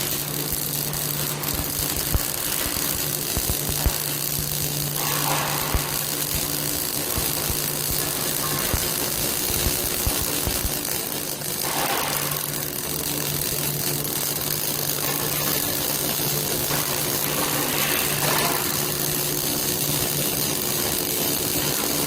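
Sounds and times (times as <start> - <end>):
welding machine humming: 0.0 - 22.0.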